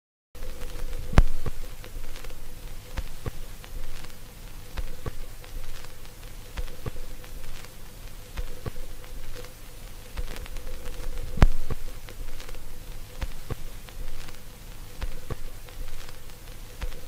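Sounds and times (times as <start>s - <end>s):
faint low hum: 0.4s - 17.0s
louder record clicks: 0.4s - 17.0s
vinyl crackle and pops: 0.4s - 17.0s.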